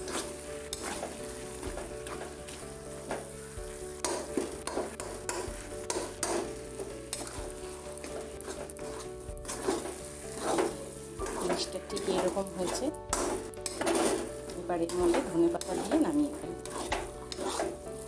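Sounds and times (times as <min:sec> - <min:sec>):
light frying sizzle: 0:00.0 - 0:18.0
spatula scraping a pan: 0:00.0 - 0:18.0.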